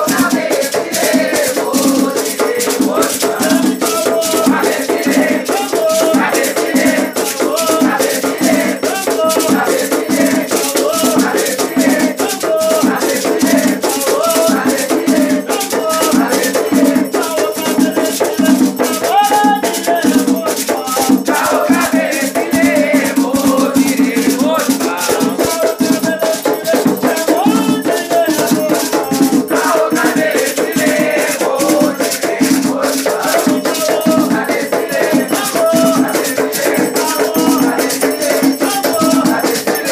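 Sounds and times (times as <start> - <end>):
rattle shaken in fast beat: 0.0 - 39.9
voices singing: 0.0 - 39.9.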